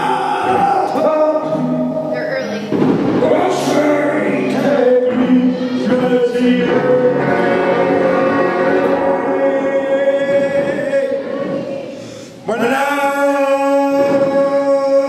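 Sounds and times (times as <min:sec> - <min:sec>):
man singing into microphone: 0:00.0 - 0:01.7, 0:03.1 - 0:15.0.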